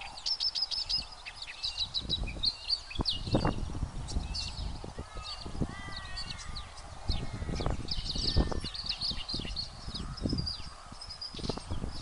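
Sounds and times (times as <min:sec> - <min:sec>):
birds chirping and trilling: 0:00.0 - 0:12.0
wind buffeting microphone: 0:00.0 - 0:12.0.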